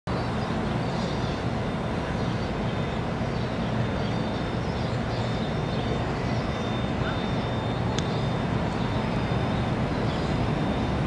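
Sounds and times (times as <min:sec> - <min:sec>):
distant subway train rumble: 0:00.1 - 0:11.0.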